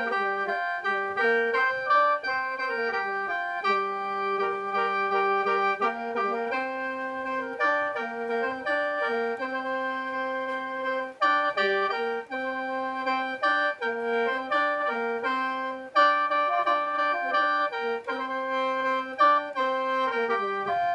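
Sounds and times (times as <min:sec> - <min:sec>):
bamboo mouth organ playing: 0:00.0 - 0:20.9.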